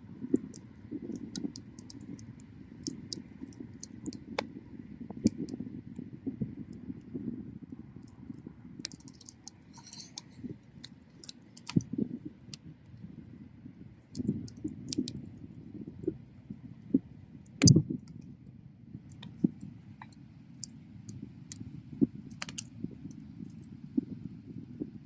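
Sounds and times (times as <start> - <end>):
bonfire crackling and popping: 0.0 - 24.9
low rumble of flame: 0.0 - 25.0.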